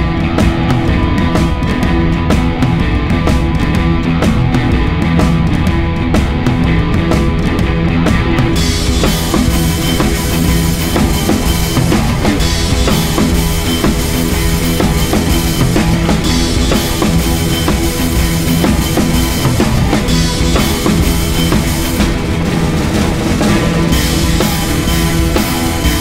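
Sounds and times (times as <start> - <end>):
background music with drum beat: 0.0 - 26.0.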